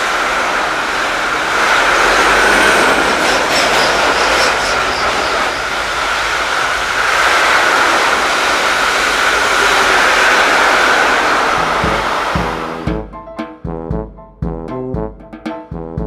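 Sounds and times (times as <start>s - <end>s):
high-pitched whine: 0.0s - 12.9s
train wheels rolling on rail: 0.0s - 12.9s.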